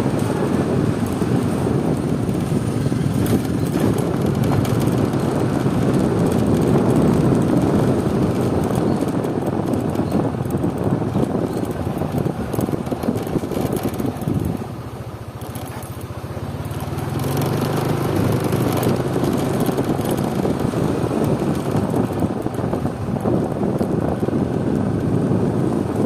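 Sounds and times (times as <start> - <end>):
motor engine hum: 0.0 - 26.0
rumbling outdoor noise: 0.0 - 26.0.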